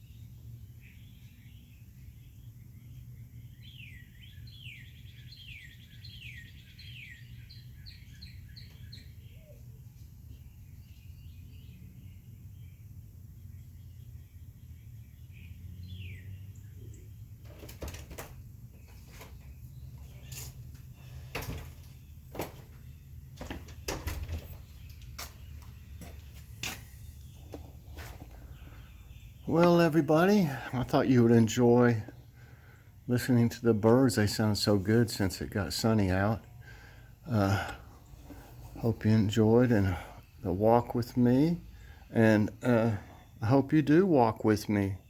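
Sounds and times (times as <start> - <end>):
birds singing whistled notes: 0.0 - 17.4, 18.7 - 45.0.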